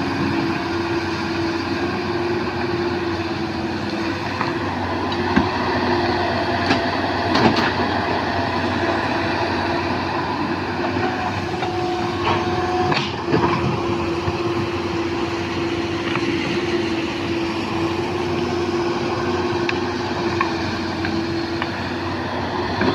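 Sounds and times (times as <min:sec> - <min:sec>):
excavator engine whining: 0:00.0 - 0:22.9.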